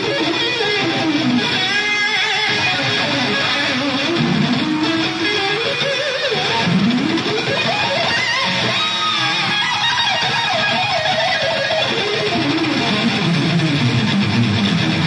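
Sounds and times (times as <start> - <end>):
electric guitar solo: 0.0 - 15.0.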